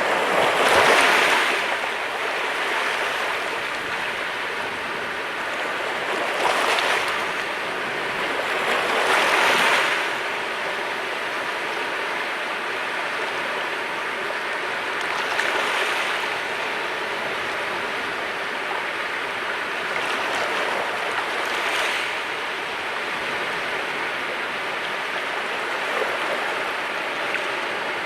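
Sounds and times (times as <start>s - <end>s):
sea waves on rocky shore: 0.0s - 28.0s.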